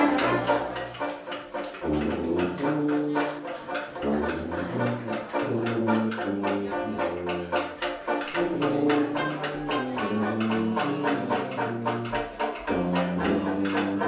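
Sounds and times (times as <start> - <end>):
banjo strumming: 0.0 - 14.0
sousaphone low notes: 0.0 - 14.0
washboard beat: 0.0 - 14.0.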